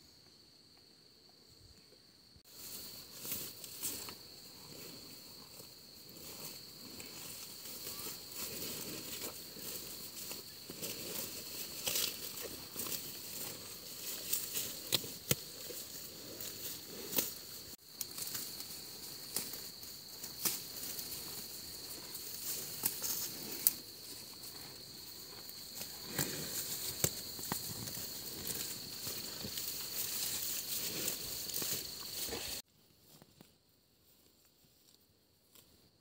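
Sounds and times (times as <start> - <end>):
high insect drone: 0.0 - 32.6.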